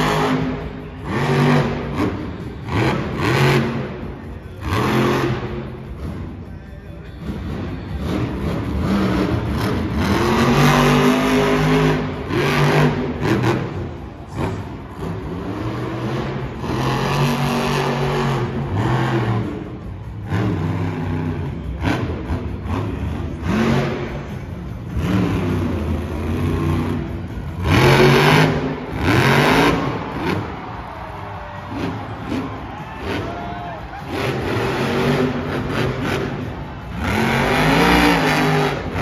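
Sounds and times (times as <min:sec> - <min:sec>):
truck engine revving: 0:00.0 - 0:39.0.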